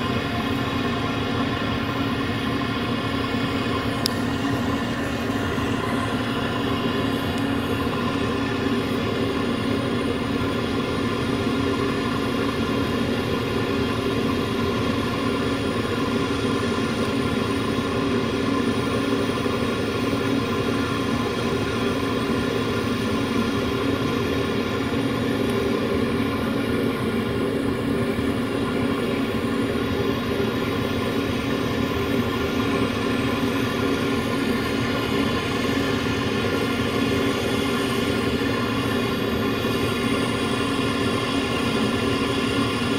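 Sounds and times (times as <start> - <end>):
butane torch flame rushing: 0.0 - 42.9.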